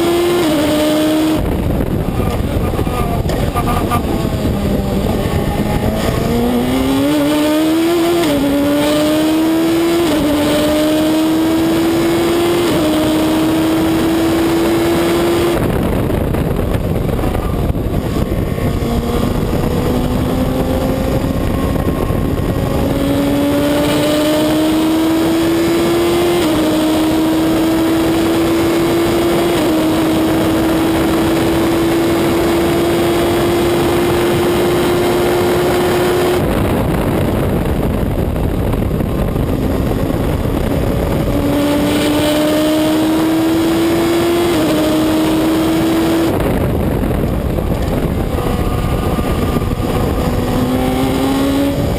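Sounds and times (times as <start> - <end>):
race car engine upshifting: 0.0 - 51.9
wind rushing: 0.0 - 51.9.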